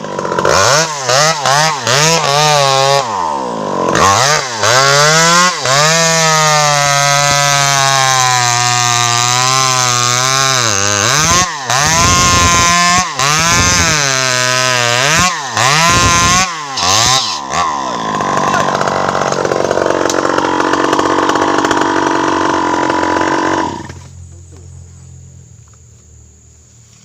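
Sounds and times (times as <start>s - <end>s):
chainsaw revving: 0.0s - 24.3s.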